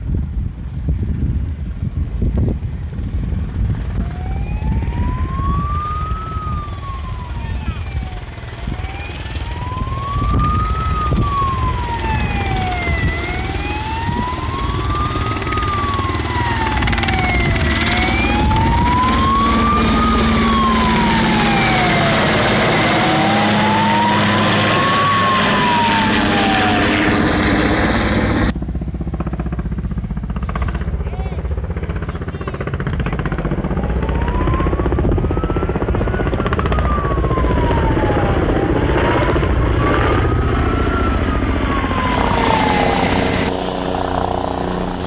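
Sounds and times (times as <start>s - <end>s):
helicopter rushing overhead: 0.0s - 45.0s
siren wailing: 3.9s - 28.6s, 31.0s - 45.0s.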